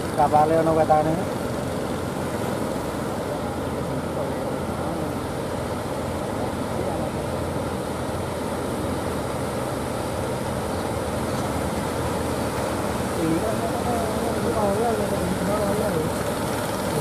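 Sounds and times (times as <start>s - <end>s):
boat engines running: 0.0s - 17.0s
breaking surf: 0.0s - 17.0s.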